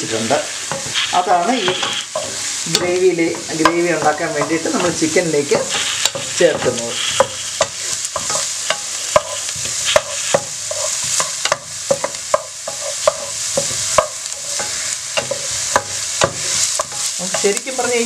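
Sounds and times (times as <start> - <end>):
onions sizzling in hot oil: 0.0 - 18.0
spoon knocking and scraping a pan: 0.6 - 18.0.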